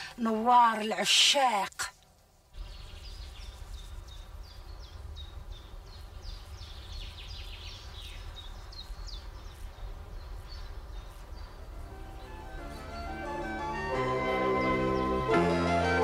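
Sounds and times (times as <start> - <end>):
small birds chirping: 2.4 - 16.0
steady low rumble: 2.5 - 15.4.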